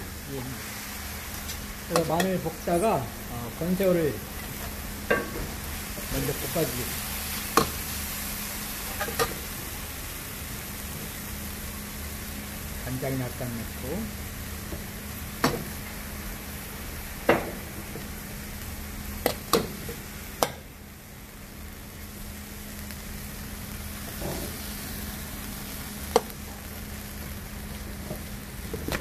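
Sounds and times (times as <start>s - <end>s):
shrimp sizzling in a wok: 0.0s - 29.0s.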